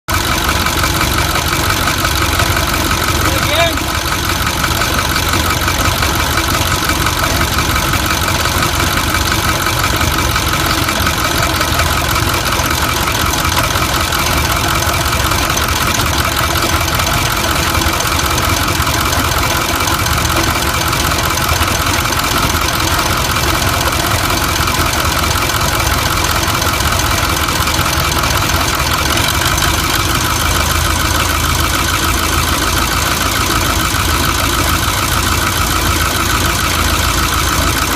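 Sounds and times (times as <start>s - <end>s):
diesel engine idling: 0.1s - 37.9s.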